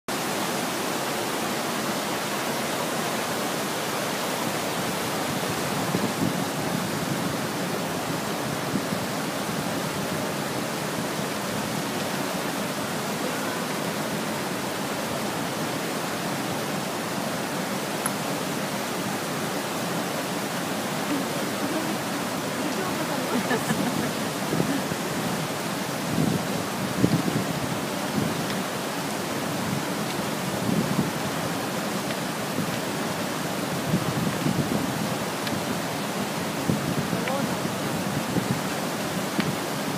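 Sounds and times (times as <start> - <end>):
river rapids rushing over rocks: 0.1 - 39.9.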